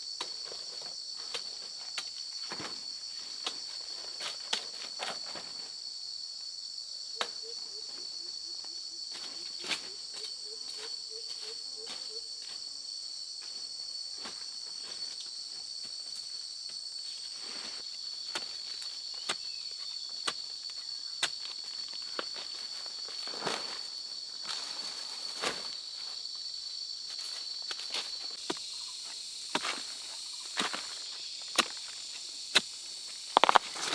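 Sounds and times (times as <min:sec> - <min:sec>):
high-pitched insect chorus: 0:00.0 - 0:33.9.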